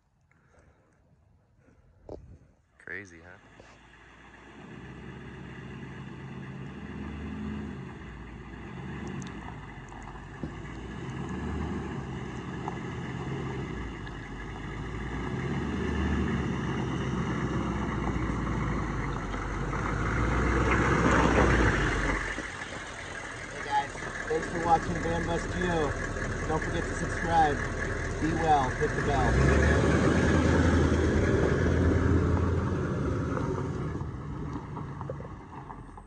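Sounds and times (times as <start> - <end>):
bus engine running: 2.9 - 36.0.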